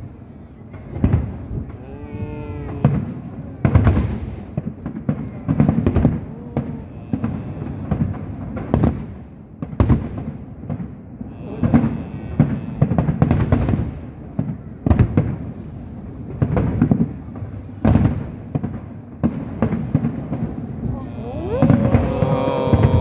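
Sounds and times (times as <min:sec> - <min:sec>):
fireworks booming and crackling: 0:00.0 - 0:23.0.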